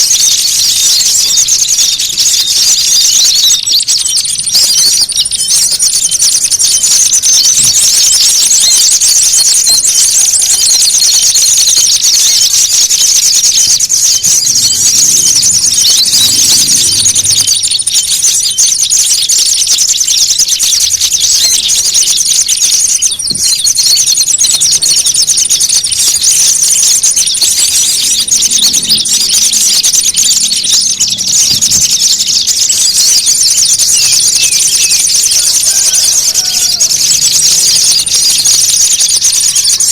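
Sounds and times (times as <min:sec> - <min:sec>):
songbirds chattering and scolding: 0:00.0 - 0:39.9.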